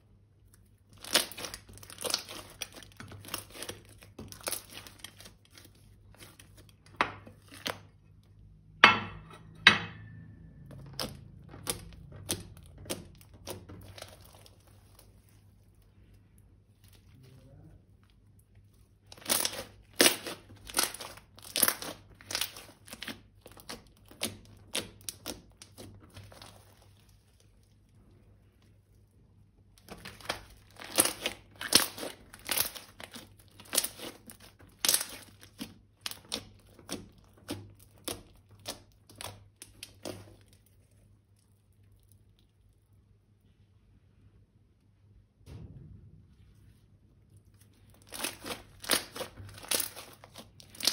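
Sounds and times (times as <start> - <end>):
slime crackling and popping: 0.3 - 8.4, 10.7 - 43.0, 47.4 - 50.9.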